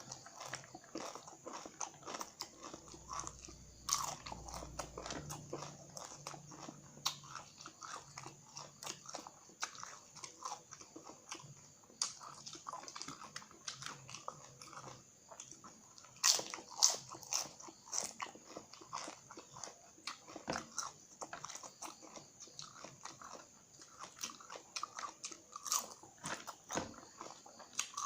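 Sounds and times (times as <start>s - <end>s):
crunching chips: 0.0s - 28.0s.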